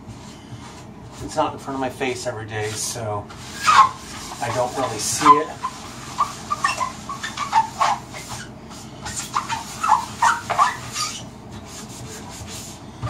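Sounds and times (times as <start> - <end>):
sponge scrubbing a cabinet door: 2.2 - 13.0.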